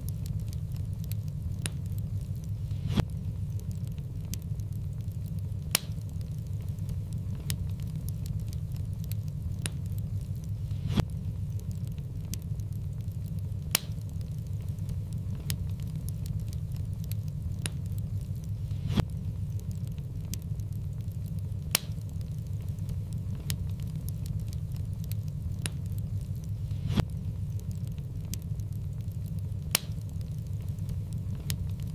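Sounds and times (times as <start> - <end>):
faint ticks: 0.0 - 31.9
fire flames rumbling: 0.0 - 31.9
wood fire popping and crackling: 0.0 - 31.9.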